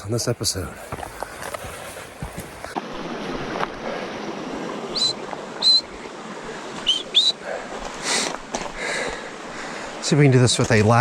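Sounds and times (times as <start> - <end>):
creek flowing: 0.1 - 11.0.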